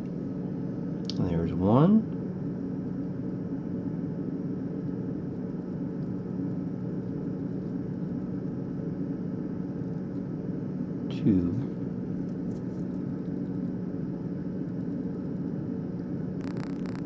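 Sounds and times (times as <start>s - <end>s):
low tone hum: 0.0s - 17.0s.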